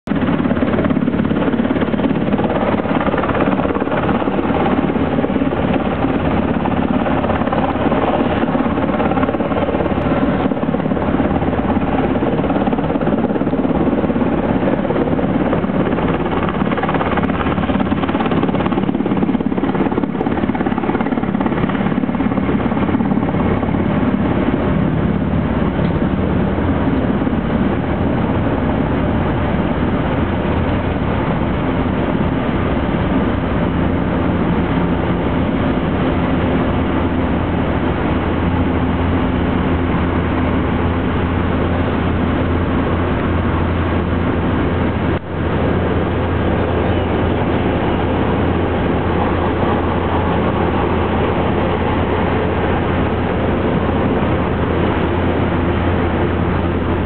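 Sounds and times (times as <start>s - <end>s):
jet airliner flying low rumble: 0.0s - 57.0s.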